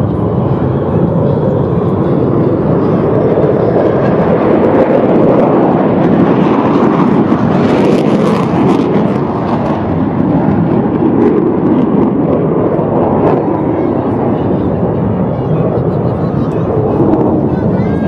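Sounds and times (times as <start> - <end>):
aircraft roar overhead: 0.0 - 18.0.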